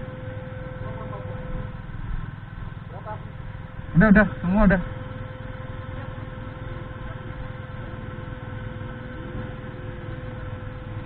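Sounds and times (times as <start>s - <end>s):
motorcycle engines idling: 0.0s - 11.0s
thin steady whine: 0.0s - 11.0s.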